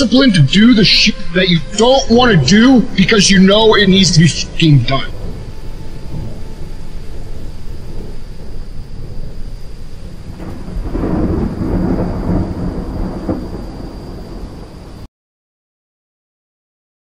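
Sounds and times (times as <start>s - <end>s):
rain hissing: 0.0s - 15.1s
thunder rolling: 0.0s - 15.1s.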